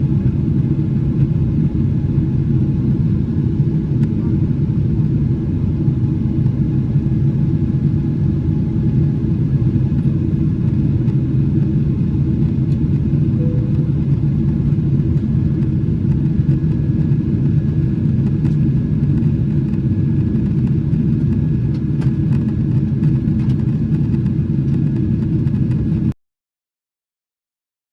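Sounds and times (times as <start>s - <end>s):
airplane cabin rumble: 0.0s - 26.1s.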